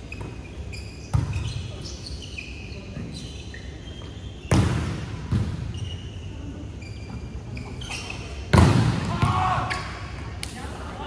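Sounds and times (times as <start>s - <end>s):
sneaker squeaks on court floor: 0.0s - 8.8s, 9.6s - 10.2s.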